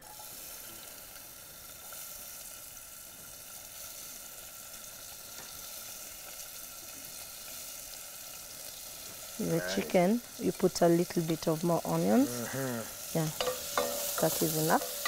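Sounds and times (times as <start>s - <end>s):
onions sizzling in hot fat: 0.0s - 15.0s.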